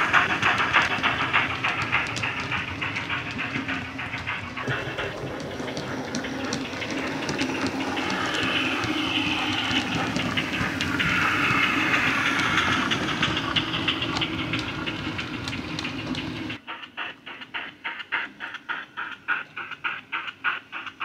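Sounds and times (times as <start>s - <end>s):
steam locomotive sound from speaker: 0.0s - 21.0s.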